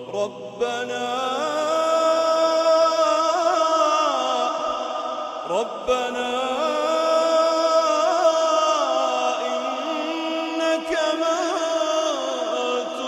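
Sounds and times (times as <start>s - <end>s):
person reciting melodically: 0.0s - 13.0s.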